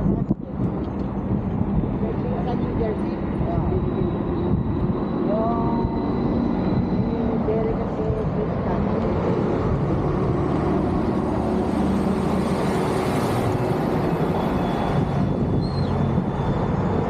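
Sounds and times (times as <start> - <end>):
highway traffic rumble: 0.0 - 17.0
wind noise on microphone: 0.0 - 17.0
vehicle passing: 2.0 - 17.0.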